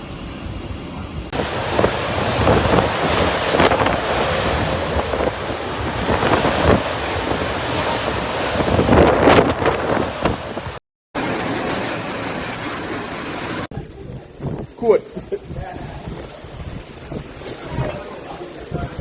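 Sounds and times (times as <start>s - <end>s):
strong wind gusting on microphone: 0.0s - 10.8s, 13.5s - 19.0s.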